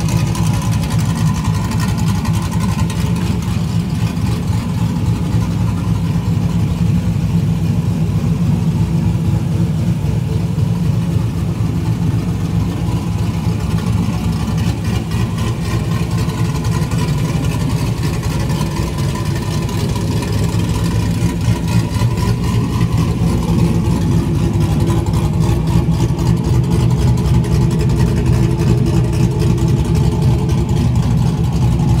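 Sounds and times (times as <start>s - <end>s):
car engine idling with choppy lope: 0.0s - 32.0s.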